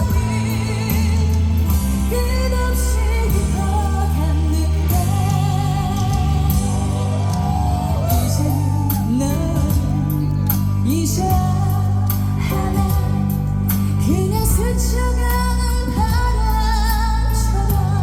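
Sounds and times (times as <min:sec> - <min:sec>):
backing track with bass and drums: 0:00.0 - 0:18.0
woman singing with vibrato: 0:00.0 - 0:18.0.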